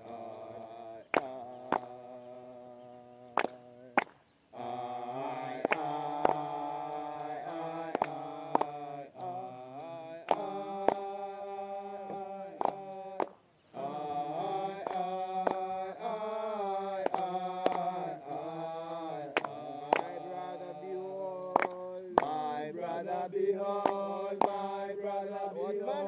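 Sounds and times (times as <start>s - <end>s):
slow hymn chanting: 0.0s - 26.0s.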